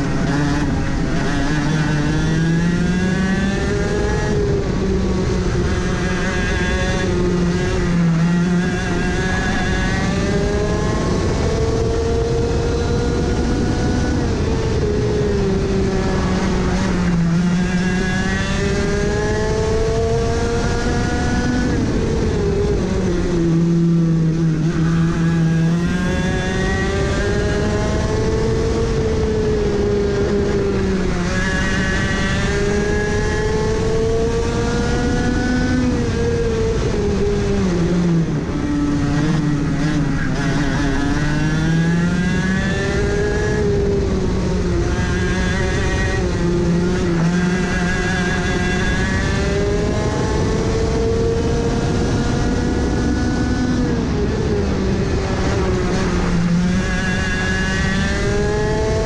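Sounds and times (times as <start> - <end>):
kart engine revving: 0.0 - 59.0
wind and tyre noise: 0.0 - 59.0.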